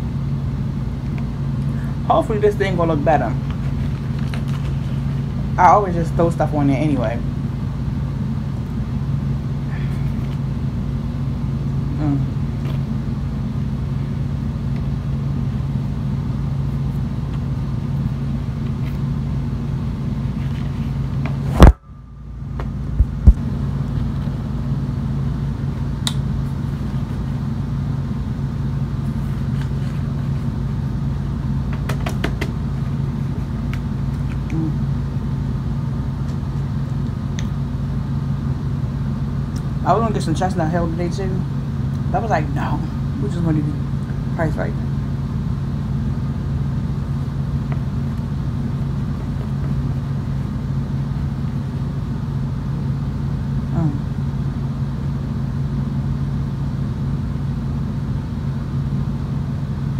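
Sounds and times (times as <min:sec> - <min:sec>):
low fan hum: 0:00.0 - 0:59.9.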